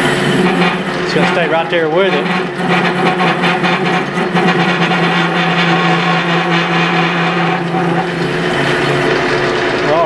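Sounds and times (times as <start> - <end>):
metal lathe motor humming: 0.0 - 10.0.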